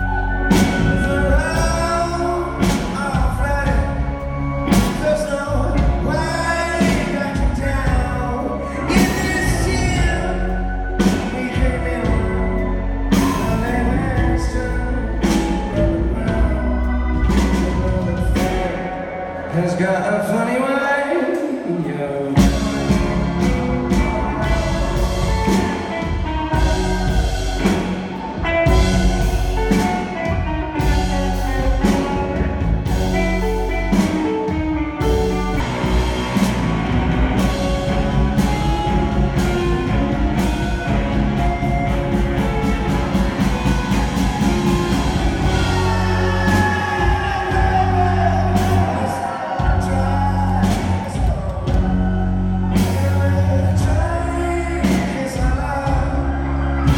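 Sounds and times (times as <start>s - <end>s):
high bending guitar line: 0.0s - 20.7s, 21.6s - 56.9s
rock band playing live: 0.0s - 56.9s.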